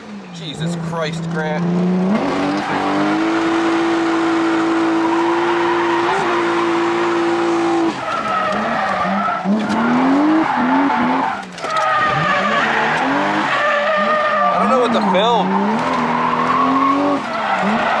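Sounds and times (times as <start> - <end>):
car engine revving: 0.0 - 18.0
tyres skidding: 0.0 - 18.0.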